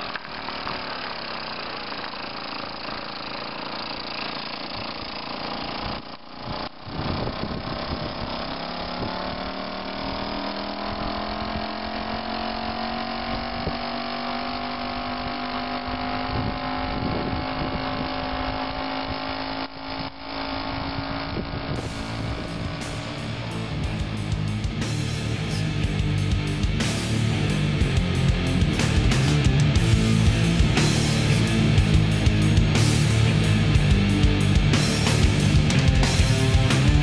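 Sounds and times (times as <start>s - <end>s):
moped engine sputtering buzz: 0.0s - 37.0s.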